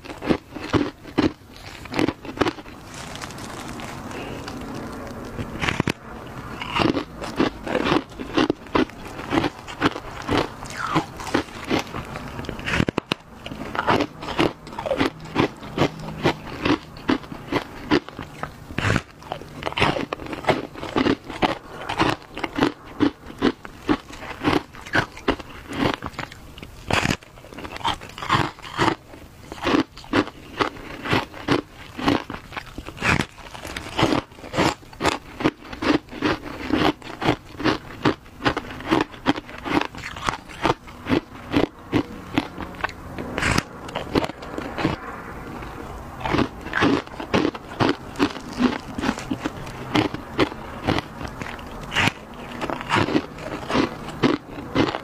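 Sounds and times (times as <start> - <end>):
person crunching shaved ice: 0.0 - 55.0.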